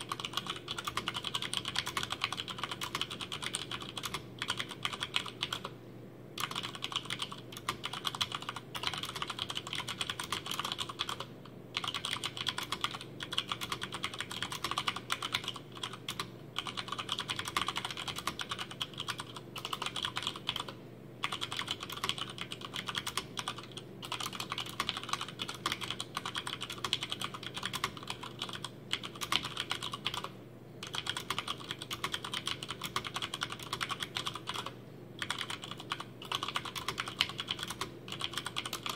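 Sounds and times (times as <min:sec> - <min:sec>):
mechanical keyboard typing: 0:00.0 - 0:05.7, 0:06.4 - 0:38.9.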